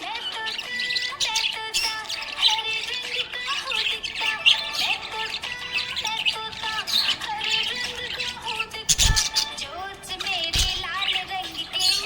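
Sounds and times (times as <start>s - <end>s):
budgerigars chirping and warbling: 0.0s - 12.0s.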